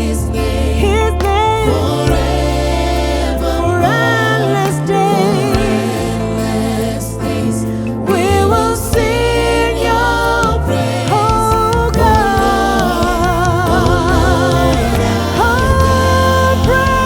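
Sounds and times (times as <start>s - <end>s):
steady bass accompaniment: 0.0s - 17.0s.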